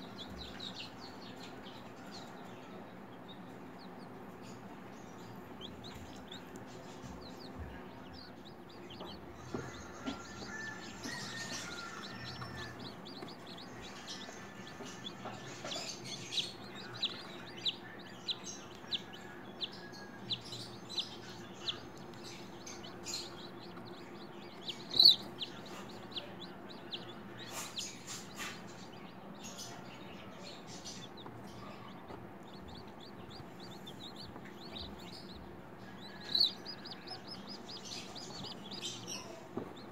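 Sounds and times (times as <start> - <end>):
chick peeping: 0.0 - 39.9
faint low hum: 0.0 - 39.9.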